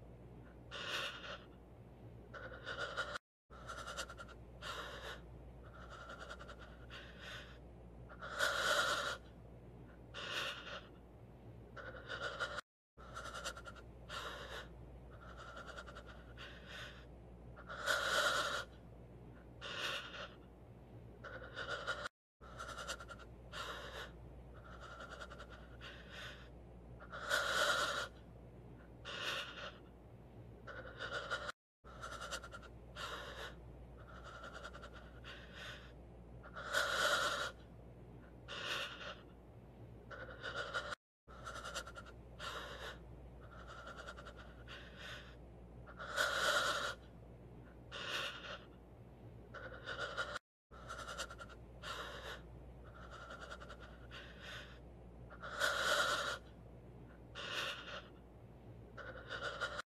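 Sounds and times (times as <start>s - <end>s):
person panting heavily: 0.7s - 1.6s, 2.3s - 9.3s, 10.1s - 11.0s, 11.8s - 18.8s, 19.6s - 20.5s, 21.2s - 28.2s, 28.8s - 29.9s, 30.6s - 37.6s, 38.3s - 39.3s, 40.1s - 47.0s, 47.9s - 48.8s, 49.5s - 56.4s, 57.3s - 58.2s, 59.0s - 59.9s.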